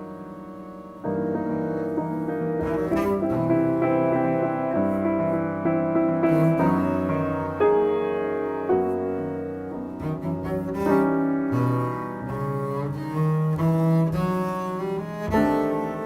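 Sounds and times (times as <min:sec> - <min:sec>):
bowed double bass: 0:00.0 - 0:16.0
piano chords: 0:00.0 - 0:16.0.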